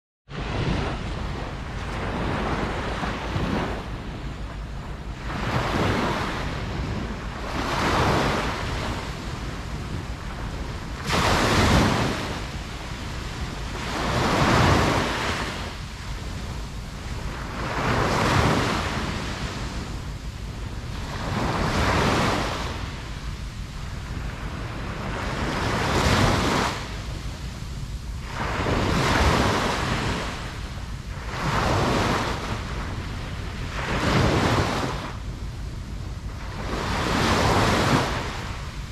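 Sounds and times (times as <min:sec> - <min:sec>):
ocean waves breaking: 0:00.3 - 0:38.9.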